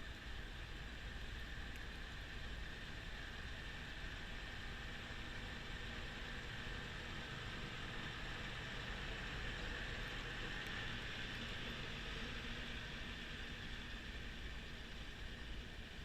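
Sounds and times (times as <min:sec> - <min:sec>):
tractor snowblower running: 0:00.0 - 0:16.0.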